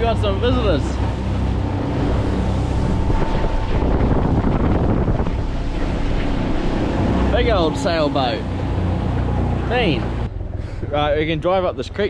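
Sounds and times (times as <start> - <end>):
outboard motor running: 0.0 - 11.2
water rushing past hull: 0.0 - 11.7
wind buffeting microphone: 0.0 - 12.0.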